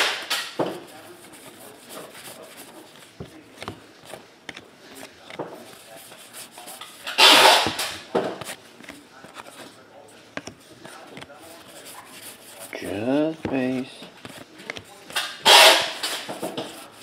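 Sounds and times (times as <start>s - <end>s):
cards being flipped through: 0.0s - 17.0s.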